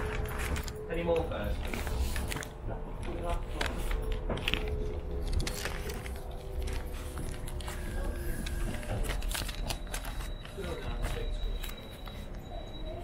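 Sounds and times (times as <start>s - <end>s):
passengers' small clicks and knocks: 0.0s - 12.7s.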